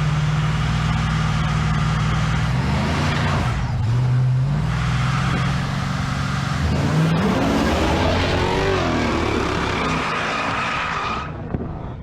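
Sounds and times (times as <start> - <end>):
drag racing engines at full throttle: 0.0 - 12.0
tyre and road noise: 0.0 - 12.0.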